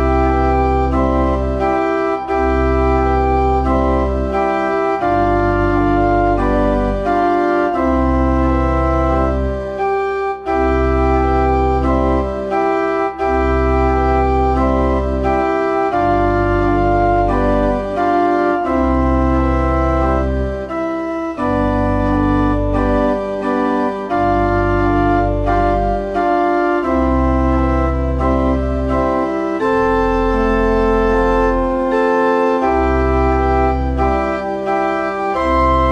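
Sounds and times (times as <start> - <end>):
church organ chords: 0.0 - 35.9
deep organ pedal bass: 0.0 - 35.9.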